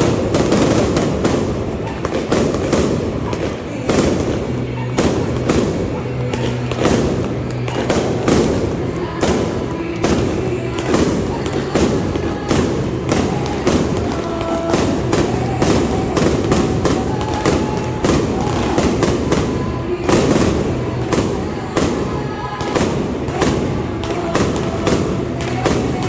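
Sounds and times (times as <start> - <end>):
bonfire crackling and popping: 0.0 - 26.0
faint singing or music: 0.0 - 26.0.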